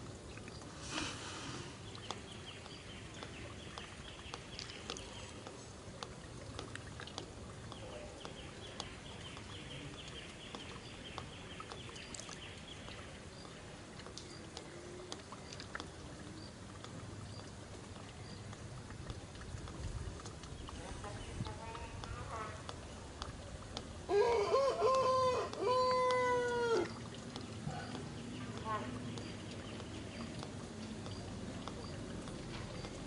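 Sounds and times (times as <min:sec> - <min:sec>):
faint clicks: 0:01.9 - 0:23.9, 0:24.9 - 0:33.0.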